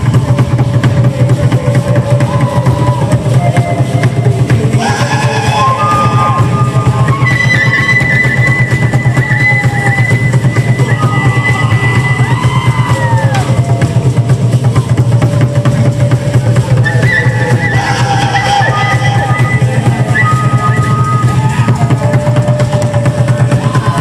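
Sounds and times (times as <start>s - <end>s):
fast steady drumming: 0.0s - 24.0s
held gliding melodic tones: 3.2s - 12.4s, 13.6s - 24.0s.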